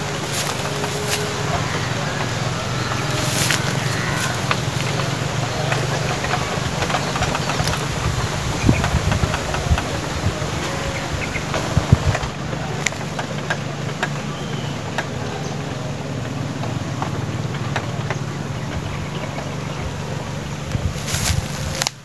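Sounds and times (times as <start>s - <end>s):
low engine-like hum: 0.0s - 22.0s.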